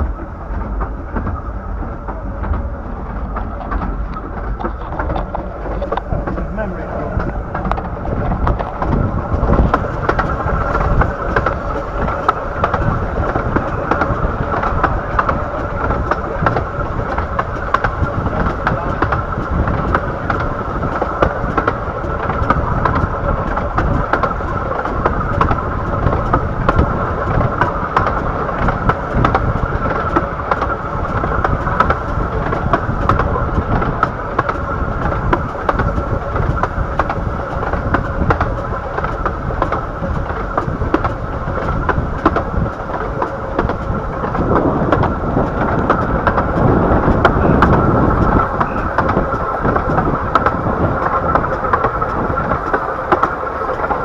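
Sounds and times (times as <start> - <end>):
steady mid-range hum: 0.0 - 54.0
train wheels rumbling on track: 0.0 - 54.0
short rail clicks: 2.0 - 54.0.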